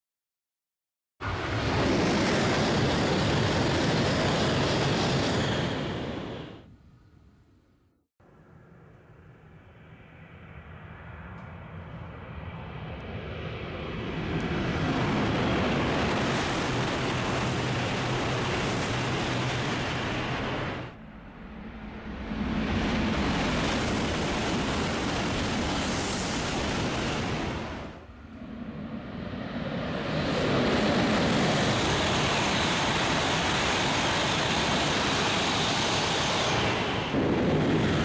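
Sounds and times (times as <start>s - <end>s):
high-speed train passing: 1.2s - 6.8s, 8.2s - 38.0s.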